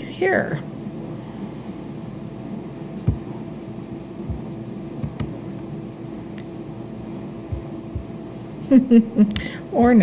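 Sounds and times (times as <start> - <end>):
room and microphone hum: 0.0 - 10.0.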